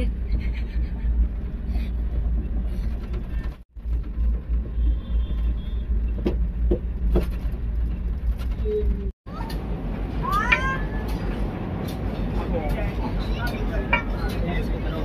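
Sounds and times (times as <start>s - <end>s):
gondola cabin rumble: 0.0s - 15.0s.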